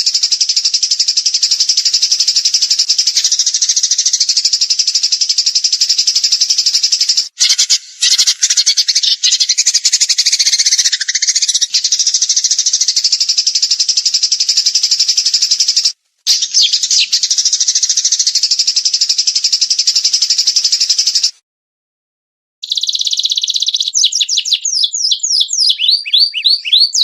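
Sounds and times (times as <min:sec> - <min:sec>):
songbird trilling: 0:00.0 - 0:21.3, 0:22.6 - 0:27.0.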